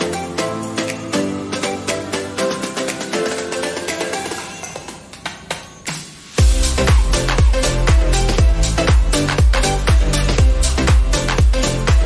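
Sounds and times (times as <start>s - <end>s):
melodic music over light beat: 0.0s - 12.0s.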